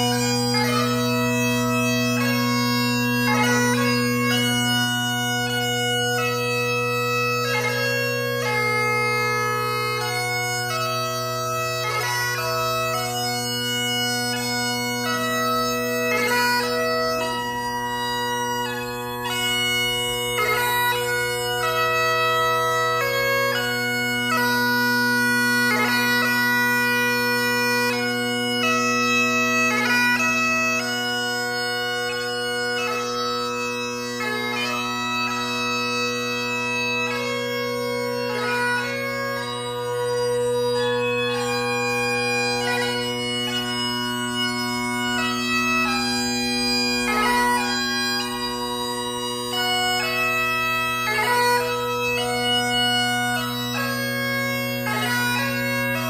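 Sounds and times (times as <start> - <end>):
bagpipe playing melody: 0.0 - 56.0.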